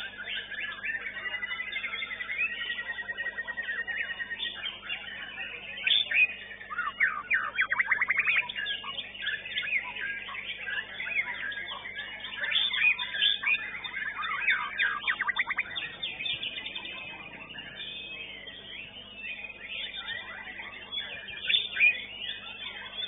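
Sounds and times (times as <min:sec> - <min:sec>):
bird singing chirps and whistles: 0:00.0 - 0:23.0.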